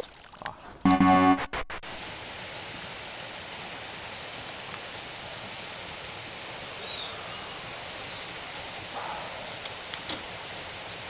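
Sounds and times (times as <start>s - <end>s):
steady outdoor hiss: 0.6s - 11.0s.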